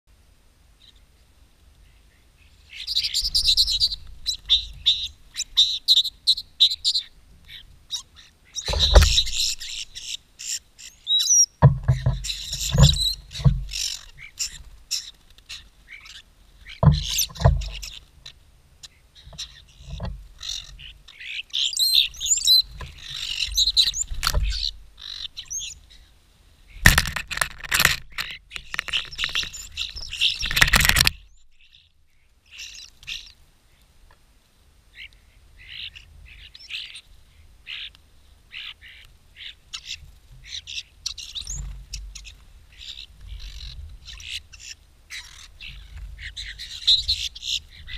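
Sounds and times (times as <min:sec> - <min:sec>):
starlings chattering: 0:01.9 - 0:26.1, 0:26.7 - 0:31.9, 0:32.5 - 0:33.4, 0:35.0 - 0:47.9.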